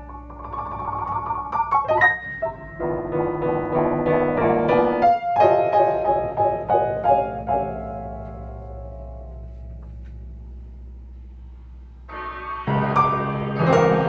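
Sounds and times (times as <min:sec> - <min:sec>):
grand piano chords: 0:00.0 - 0:14.0.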